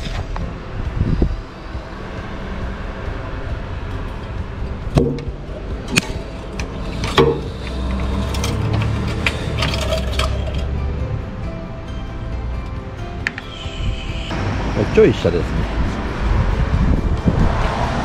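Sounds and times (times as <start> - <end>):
steady low rumble: 0.0 - 12.1, 15.4 - 18.0.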